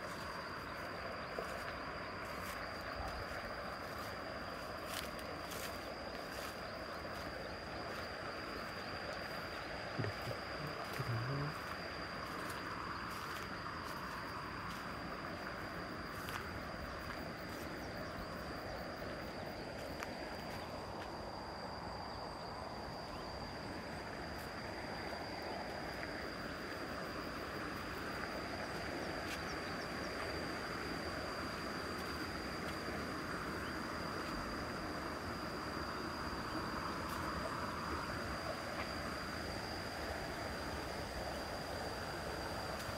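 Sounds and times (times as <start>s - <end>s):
high-pitched insect drone: 0.0s - 42.9s.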